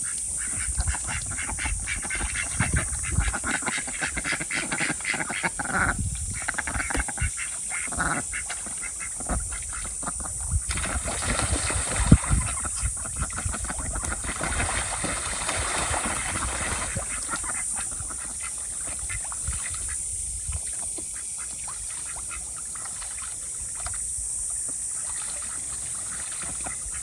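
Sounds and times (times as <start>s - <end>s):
ducks quacking: 0.0s - 20.0s, 20.7s - 23.4s, 25.0s - 27.0s.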